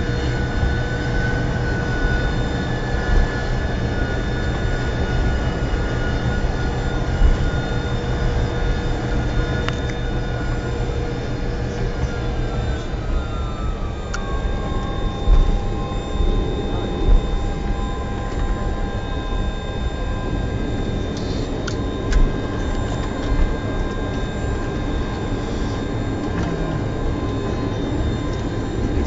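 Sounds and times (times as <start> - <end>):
aircraft engines low rumble: 0.0 - 29.0
high engine whines: 0.0 - 29.0.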